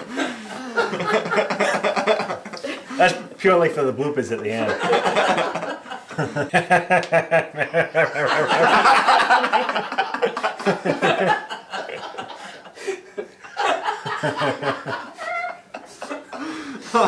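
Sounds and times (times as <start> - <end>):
people laughing: 0.0 - 3.4, 4.3 - 17.0.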